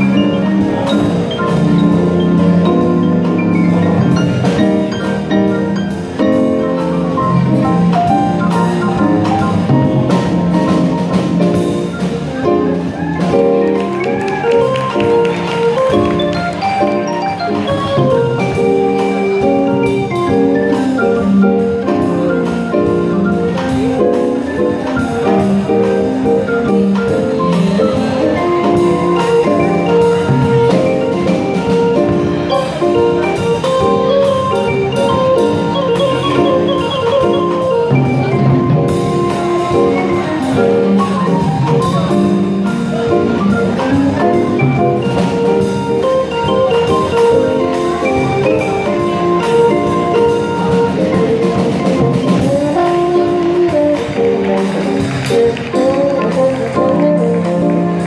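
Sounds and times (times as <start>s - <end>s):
drum kit: 0.0s - 58.0s
keyboard: 0.0s - 58.0s
marimba notes: 0.0s - 58.0s.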